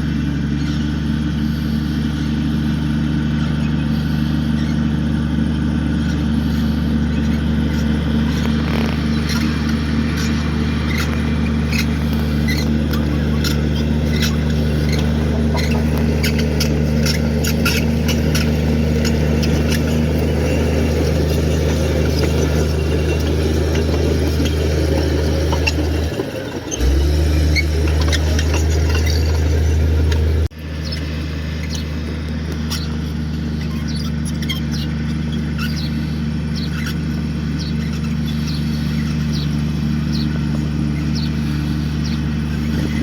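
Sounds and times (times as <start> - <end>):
bulldozer diesel engine running: 0.0 - 43.0
steel tracks squeaking and clicking: 6.0 - 43.0.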